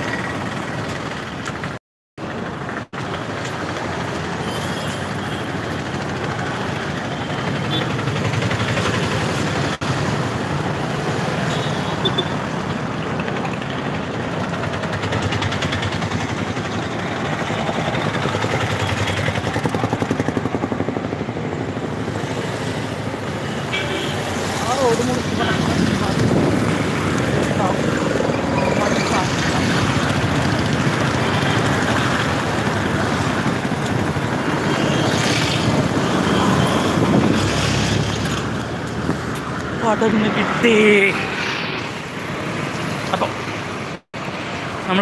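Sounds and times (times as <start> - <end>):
busy road traffic: 0.0 - 45.0
vehicles passing close by: 0.0 - 45.0.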